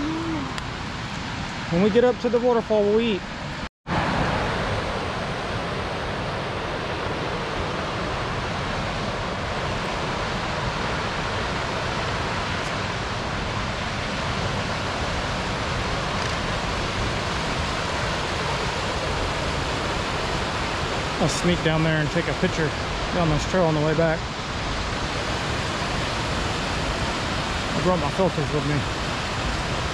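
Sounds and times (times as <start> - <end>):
creek water rushing: 0.0 - 29.9.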